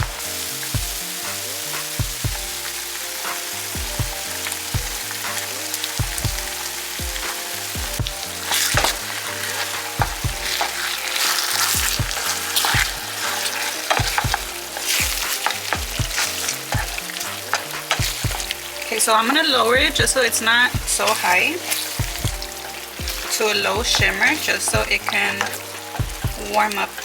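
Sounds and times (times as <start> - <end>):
background music with steady beat: 0.0 - 27.0
sauce and meat sizzling in a pan: 0.0 - 27.0.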